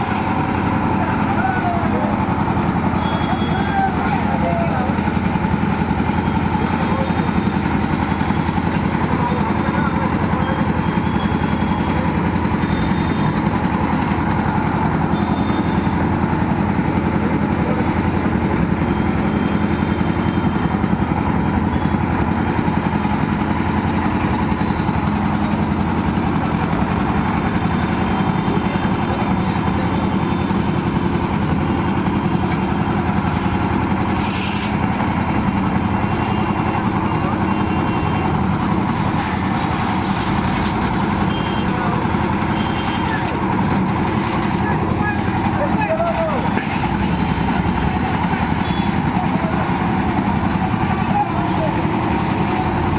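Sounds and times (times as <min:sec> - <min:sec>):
construction machinery engine drone: 0:00.0 - 0:52.9.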